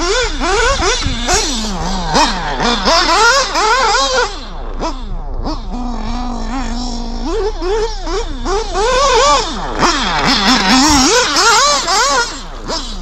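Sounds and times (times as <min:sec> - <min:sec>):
rc buggy engine revving: 0:00.0 - 0:13.0.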